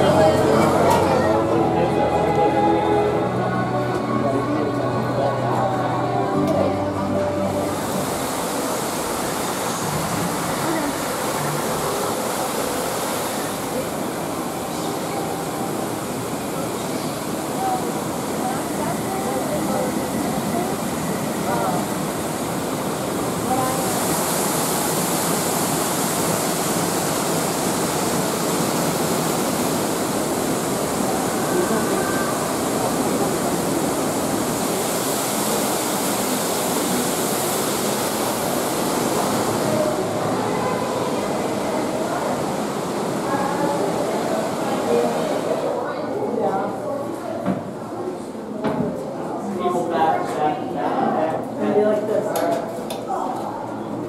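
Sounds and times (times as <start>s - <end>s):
faint voices: 0.0s - 24.2s, 30.1s - 35.7s, 38.4s - 54.0s
faint crowd chatter: 0.0s - 25.5s, 29.8s - 54.0s
waterfall rushing: 0.0s - 46.9s.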